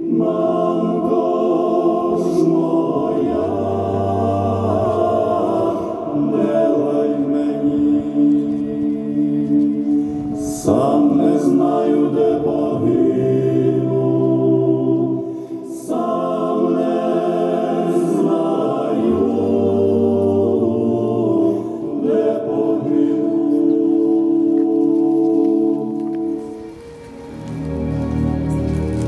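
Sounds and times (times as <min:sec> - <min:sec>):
a cappella choral singing: 0:00.0 - 0:26.9.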